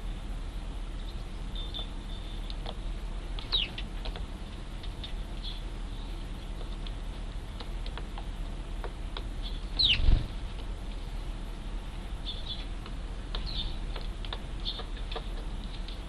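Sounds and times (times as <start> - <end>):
sparrows chirping: 0.9 - 16.0.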